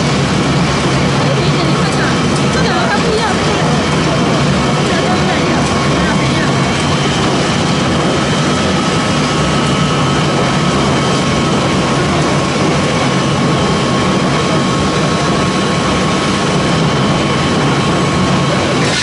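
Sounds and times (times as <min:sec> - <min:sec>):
factory machinery running: 0:00.0 - 0:19.0
high machine whines: 0:00.0 - 0:19.0.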